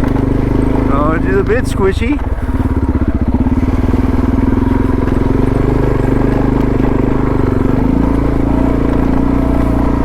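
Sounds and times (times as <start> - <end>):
motorcycle engine under load: 0.0 - 10.0.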